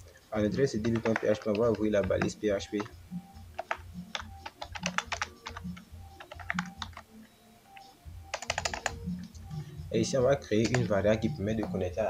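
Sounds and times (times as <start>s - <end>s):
computer keyboard typing: 0.4s - 9.6s, 10.5s - 11.8s.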